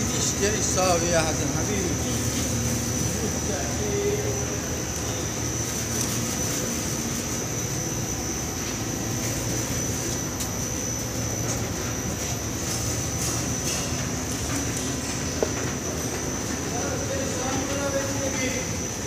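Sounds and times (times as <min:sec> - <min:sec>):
high whine: 0:00.0 - 0:19.0
machinery drone: 0:00.0 - 0:19.0.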